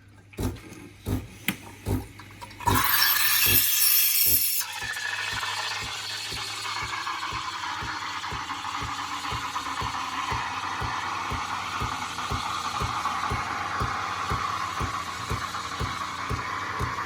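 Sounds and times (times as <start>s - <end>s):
steam wand hissing: 2.7s - 17.0s.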